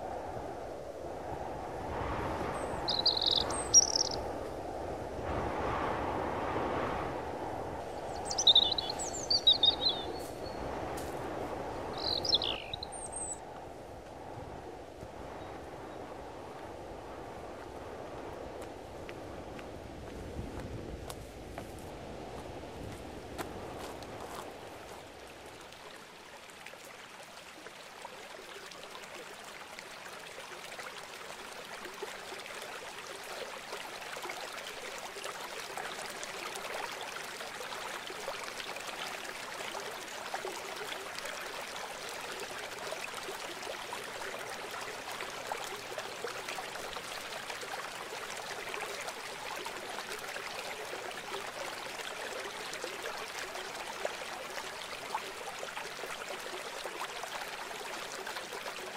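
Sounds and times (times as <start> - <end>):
river water babbling: 0.0 - 5.3, 7.4 - 20.1, 21.4 - 58.9.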